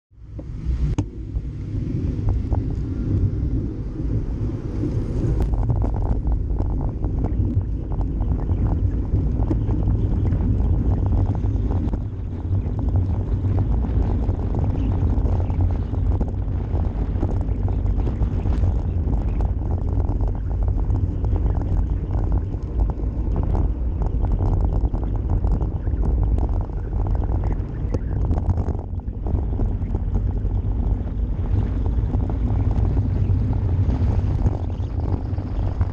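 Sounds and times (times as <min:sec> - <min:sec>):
wind rushing over microphone: 0:00.2 - 0:35.9.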